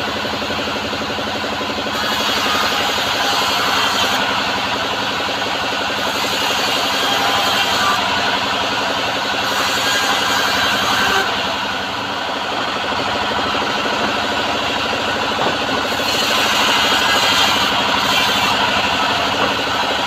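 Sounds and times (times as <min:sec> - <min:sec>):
bandsaw sawmill running: 0:00.0 - 0:20.0.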